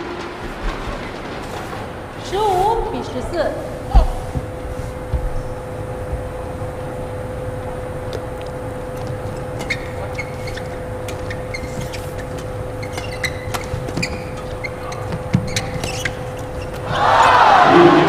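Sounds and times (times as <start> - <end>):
low hall hum: 0.0 - 18.0.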